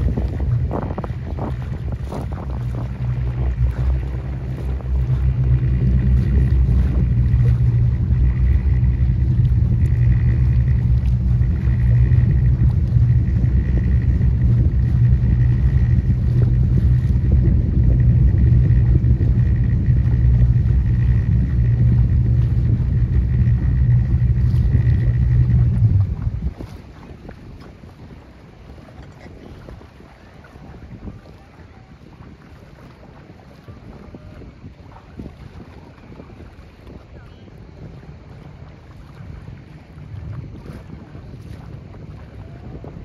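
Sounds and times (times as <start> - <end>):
motorboat engine droning: 0.0 - 43.0.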